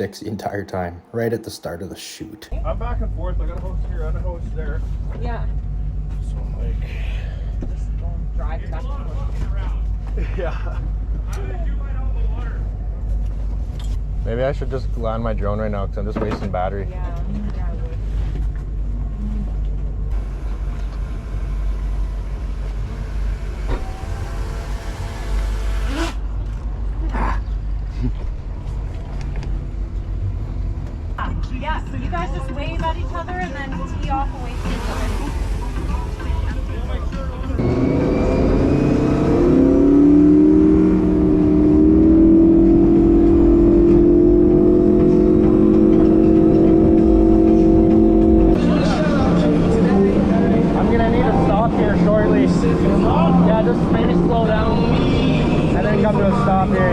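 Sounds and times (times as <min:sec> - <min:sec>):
motorboat engine rumbling: 0:02.6 - 0:56.9.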